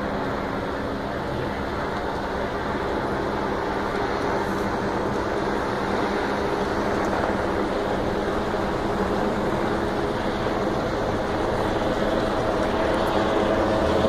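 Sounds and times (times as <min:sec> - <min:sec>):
engines droning: 0:00.0 - 0:14.0.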